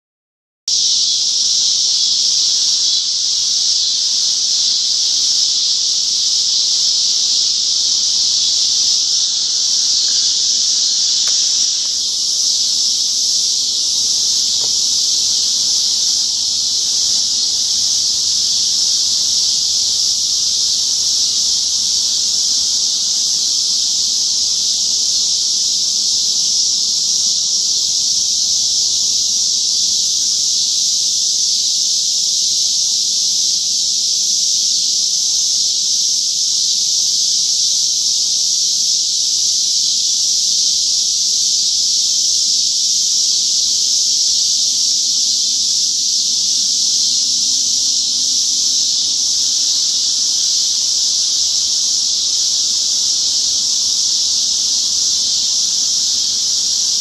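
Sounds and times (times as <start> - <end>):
cicadas droning: 0.7 - 57.0.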